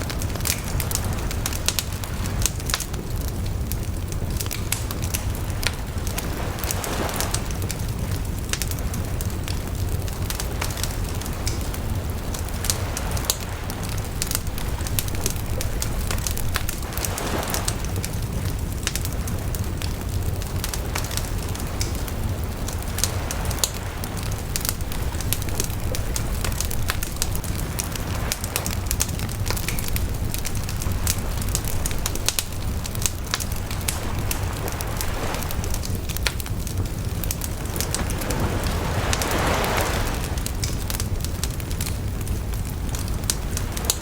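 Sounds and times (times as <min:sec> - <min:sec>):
bonfire crackling and popping: 0:00.0 - 0:44.0
low rumble of flames: 0:00.0 - 0:44.0.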